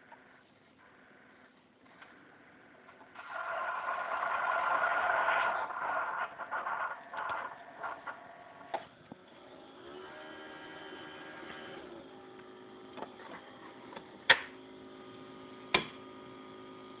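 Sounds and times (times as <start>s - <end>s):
coffee maker humming: 0.0s - 17.0s.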